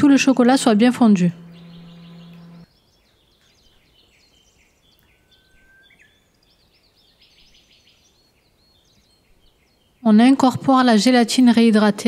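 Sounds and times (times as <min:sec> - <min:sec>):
faint birds chirping: 0:00.0 - 0:11.6.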